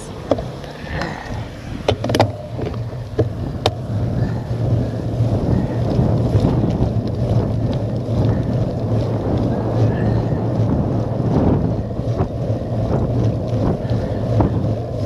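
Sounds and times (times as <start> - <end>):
bike tyres rolling on tarmac: 0.0 - 15.0
wind rumbling over microphone: 0.0 - 15.0.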